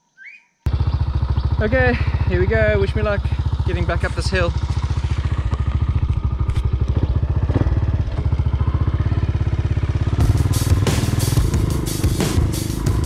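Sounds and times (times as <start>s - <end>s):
engine clattering: 0.7s - 13.0s
motorcycle engine revving: 0.7s - 13.0s.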